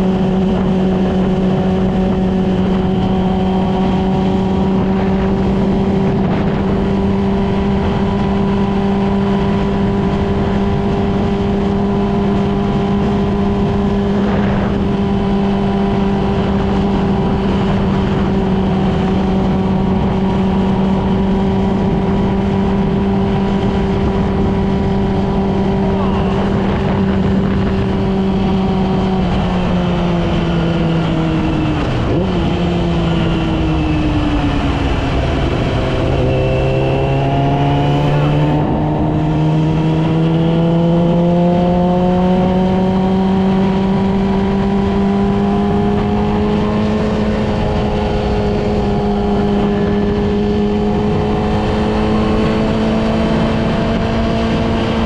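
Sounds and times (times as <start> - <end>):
motorcycle engine cruising: 0.0 - 55.0
rushing wind: 0.0 - 55.0.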